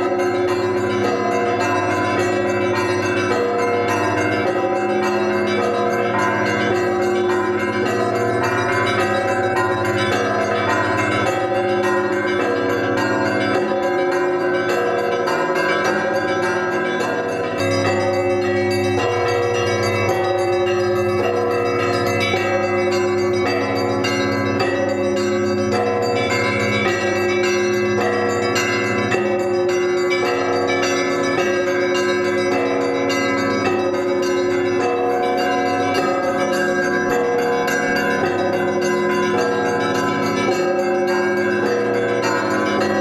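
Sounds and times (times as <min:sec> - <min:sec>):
deep bell ringing: 0:00.0 - 0:43.0
smaller bells chiming: 0:00.0 - 0:43.0.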